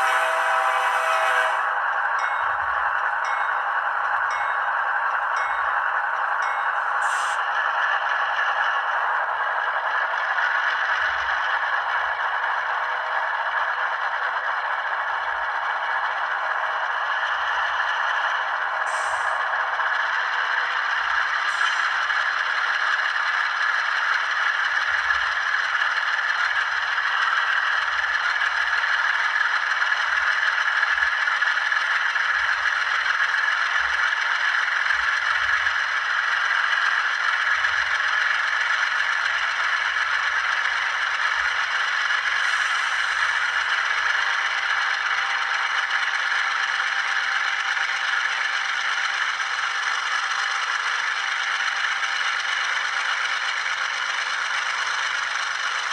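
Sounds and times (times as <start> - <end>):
thin rattly engine sound from speaker: 0.0 - 55.9.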